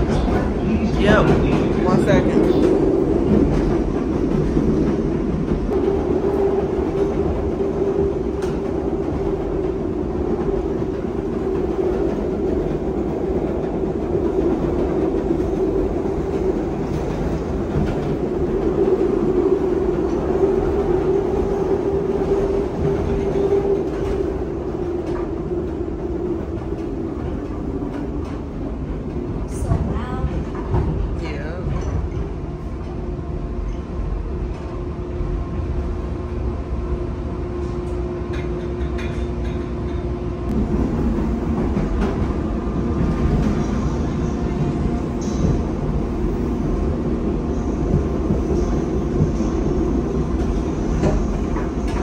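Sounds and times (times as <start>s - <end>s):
train rumble and hum: 0.0s - 52.0s.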